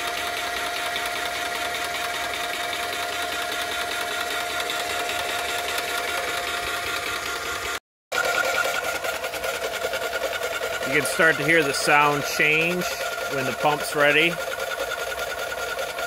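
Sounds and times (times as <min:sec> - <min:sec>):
paint sprayer pump running: 0:00.0 - 0:16.0.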